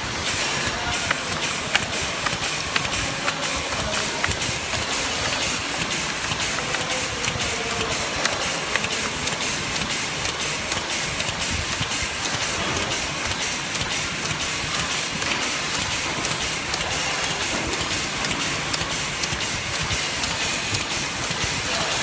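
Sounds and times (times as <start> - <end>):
machine mechanical hiss: 0.0 - 22.0
regular machine clicking: 0.0 - 22.0.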